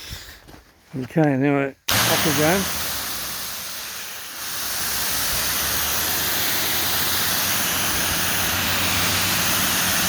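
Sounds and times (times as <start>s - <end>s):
low engine hum: 1.9s - 10.0s
pressure washer spraying pavers: 1.9s - 10.0s.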